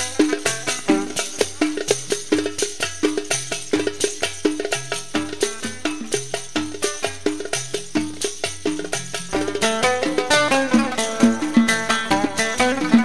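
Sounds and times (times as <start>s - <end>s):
light percussion: 0.0s - 13.0s
oud plucked notes: 0.0s - 13.0s.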